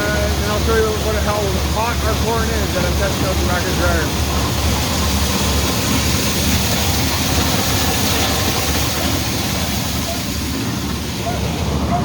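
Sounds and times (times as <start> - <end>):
grain dryer machine humming: 0.0 - 12.0.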